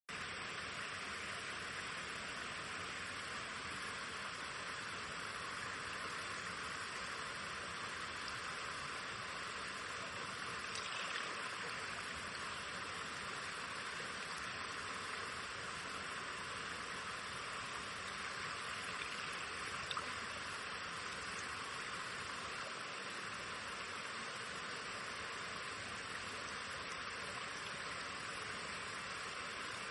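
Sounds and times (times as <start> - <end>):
stream flowing: 0.1 - 29.9.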